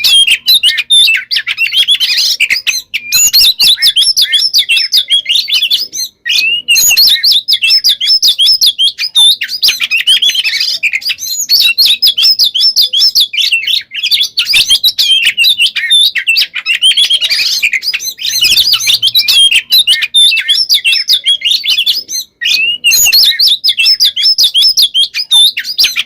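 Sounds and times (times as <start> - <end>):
songbird singing: 0.0 - 26.0.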